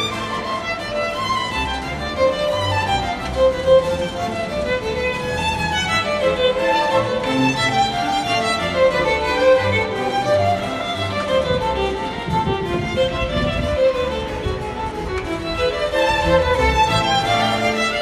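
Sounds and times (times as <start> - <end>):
violin: 0.0 - 18.0.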